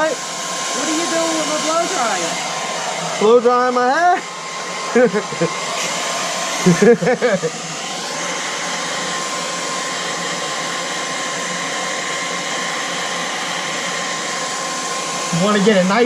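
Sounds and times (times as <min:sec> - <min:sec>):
blow dryer blowing hot air: 0:00.0 - 0:16.0.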